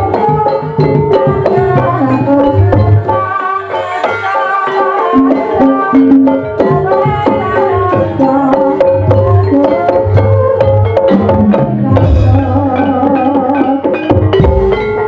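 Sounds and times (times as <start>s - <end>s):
gamelan melody: 0.0s - 15.0s
hand drum strokes: 0.0s - 15.0s.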